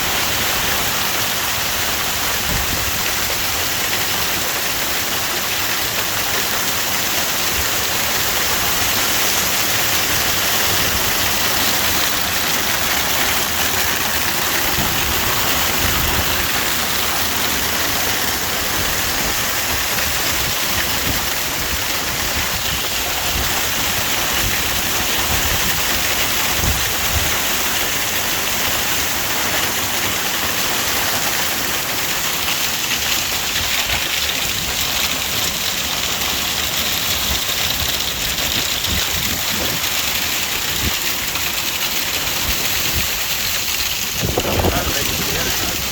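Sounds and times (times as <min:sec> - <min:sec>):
hail and heavy rain pelting: 0:00.0 - 0:45.9.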